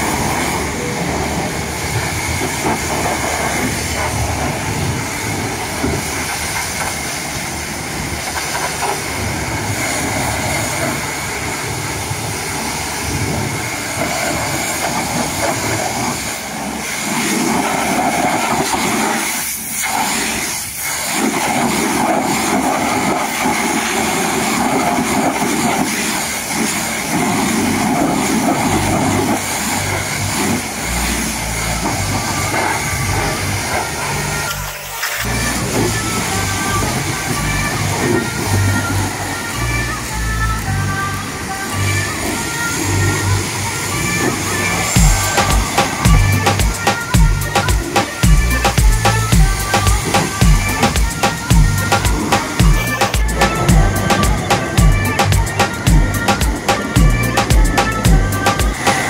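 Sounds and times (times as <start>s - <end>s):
pressure washer spray hissing: 0.0s - 59.0s.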